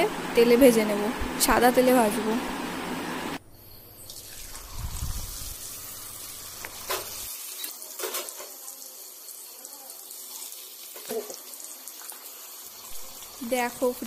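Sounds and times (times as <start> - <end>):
dough sizzling in hot oil: 2.6 - 14.0.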